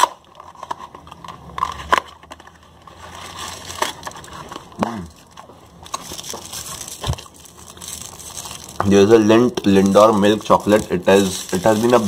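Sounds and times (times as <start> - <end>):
crinkling of foil packaging: 0.0 - 12.0
sharp crackles of packaging: 0.0 - 12.0.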